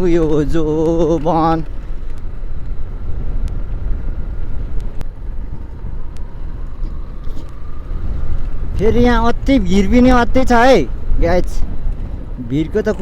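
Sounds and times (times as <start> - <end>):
motorcycle riding on dirt road: 0.0 - 13.0
wind rumble on microphone: 0.0 - 13.0.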